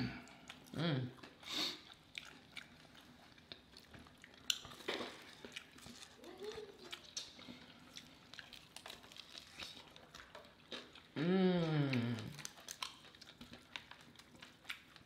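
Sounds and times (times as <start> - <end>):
wet chewing: 0.1 - 15.0.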